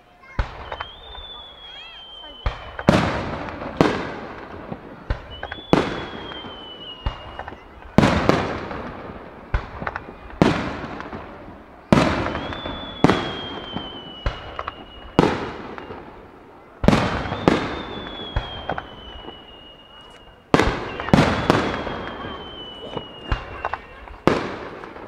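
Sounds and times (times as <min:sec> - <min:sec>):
high firework whistle: 0:00.4 - 0:11.2, 0:11.8 - 0:25.0
firework shells bursting: 0:00.4 - 0:25.0.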